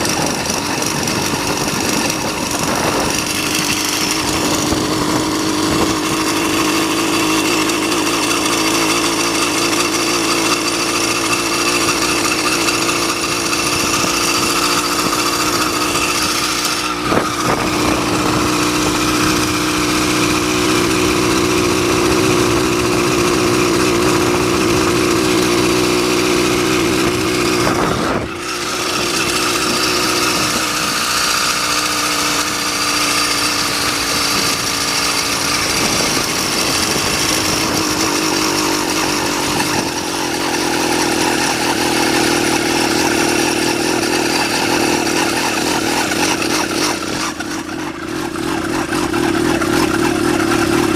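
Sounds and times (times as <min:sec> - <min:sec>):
two-stroke engine running: 0:00.0 - 0:50.9.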